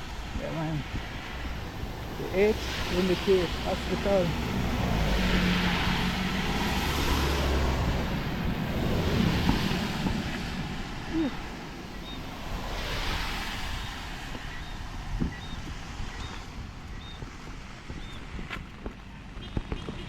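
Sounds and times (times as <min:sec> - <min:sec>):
tyres on wet road: 0:00.0 - 0:20.0
wind buffeting microphone: 0:00.0 - 0:20.0.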